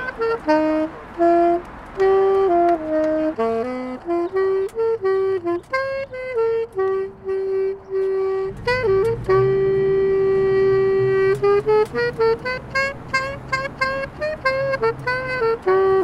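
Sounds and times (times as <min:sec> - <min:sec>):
alto saxophone melody: 0:00.0 - 0:16.0.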